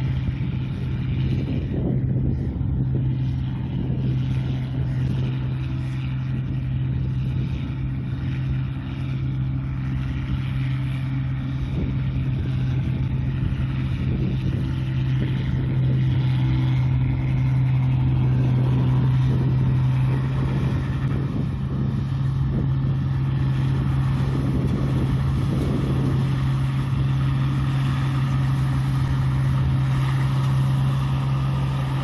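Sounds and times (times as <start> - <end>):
diesel engine running: 0.0 - 32.0
threshing machinery whir: 0.0 - 32.0.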